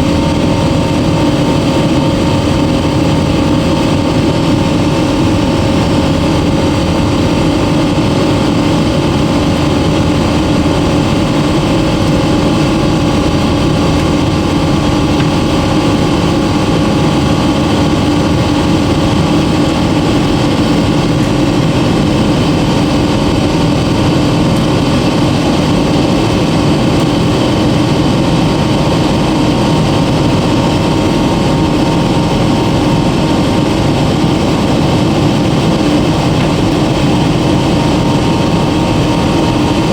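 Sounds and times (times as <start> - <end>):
constant hums: 0.0 - 39.9
engine and airflow rush: 0.0 - 39.9.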